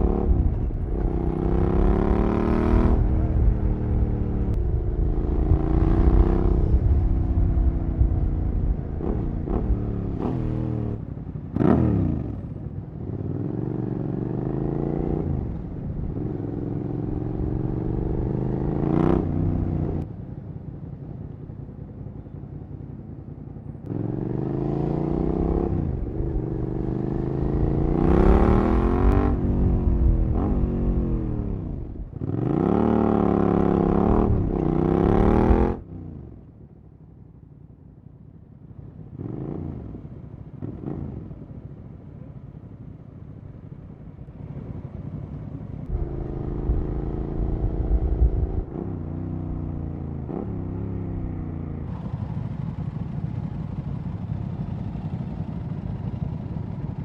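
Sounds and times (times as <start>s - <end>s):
motorcycle accelerating through gears: 0.0s - 20.1s, 23.8s - 36.6s, 39.0s - 41.7s, 43.7s - 57.0s.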